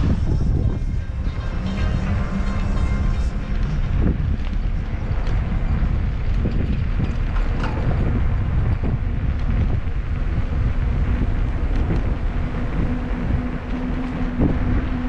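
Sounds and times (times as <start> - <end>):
steady low hum: 0.0 - 15.0
wind rumbling on microphone: 0.0 - 15.0
bicycle clicks and rattles: 1.6 - 15.0.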